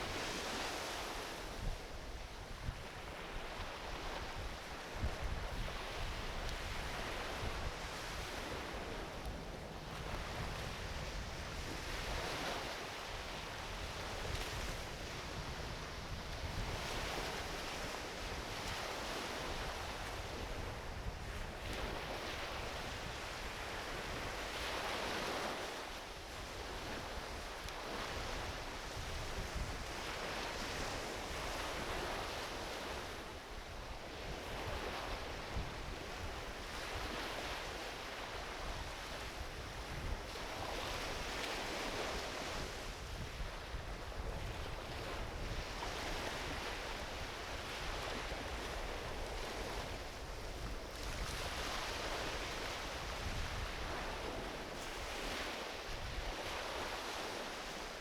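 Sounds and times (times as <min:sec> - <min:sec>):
ocean waves washing onto beach: 0:00.0 - 0:58.0
wind rumble on microphone: 0:00.0 - 0:58.0.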